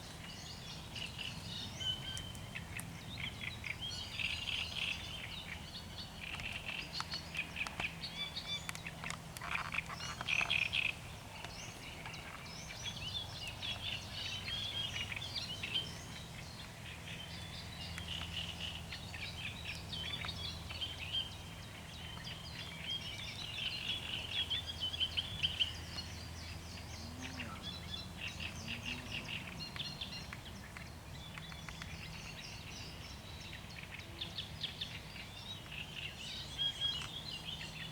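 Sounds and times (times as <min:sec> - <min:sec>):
songbird chattering song: 0:00.0 - 0:37.9.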